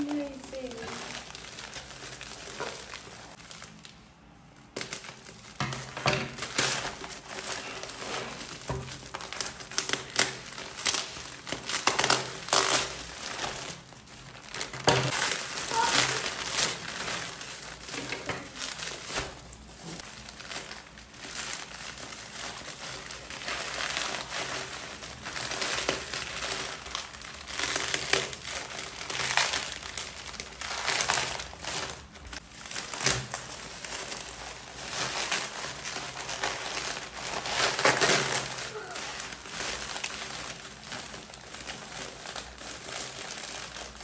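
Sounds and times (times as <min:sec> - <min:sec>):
bubble wrap crinkling: 0:00.0 - 0:44.0.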